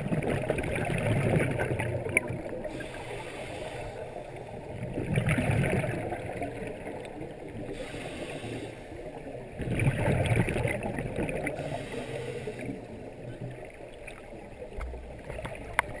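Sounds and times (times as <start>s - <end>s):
muffled rumble of water: 0.0s - 16.0s
scuba regulator exhaust bubbles: 0.0s - 16.0s.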